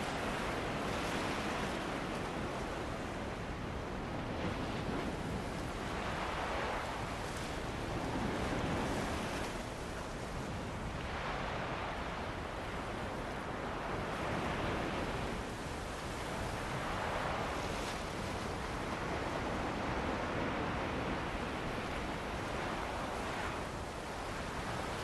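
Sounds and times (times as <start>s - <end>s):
ocean waves on beach: 0.0s - 25.0s
wind: 0.0s - 25.0s.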